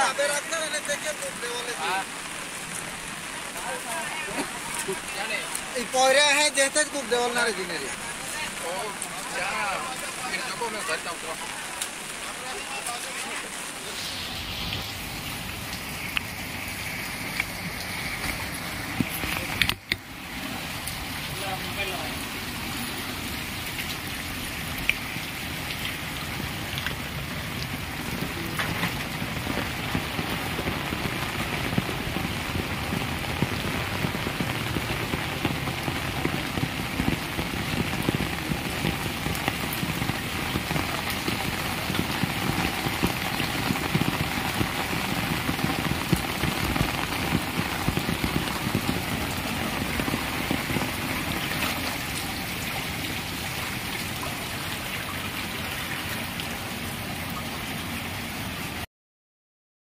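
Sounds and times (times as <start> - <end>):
heavy rain on water: 0.0 - 58.9
rushing floodwater: 0.0 - 58.9.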